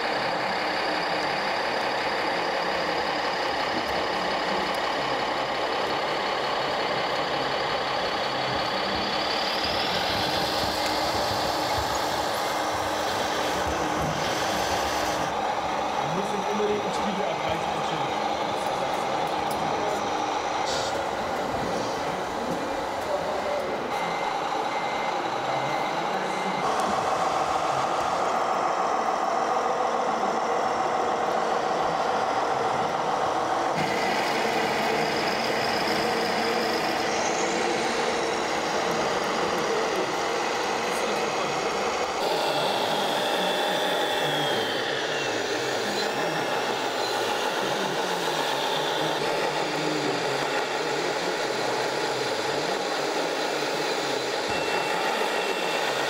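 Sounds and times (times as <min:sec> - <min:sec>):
model truck motors whining: 0:00.0 - 0:56.0.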